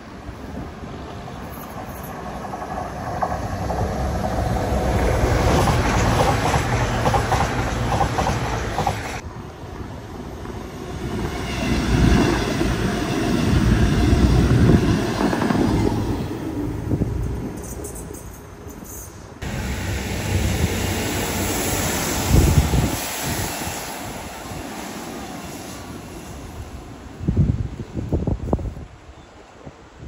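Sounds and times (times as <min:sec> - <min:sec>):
train passing: 0:00.0 - 0:28.5.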